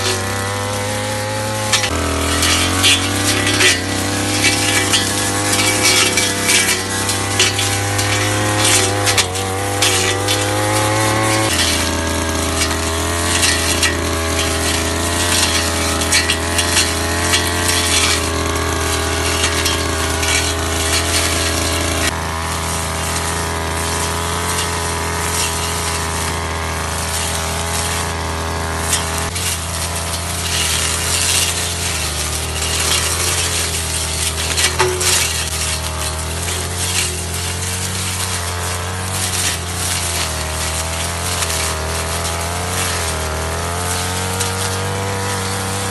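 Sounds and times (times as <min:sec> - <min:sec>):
blade crackling through weeds: 0:00.0 - 0:45.9
brush cutter engine running: 0:00.0 - 0:45.9.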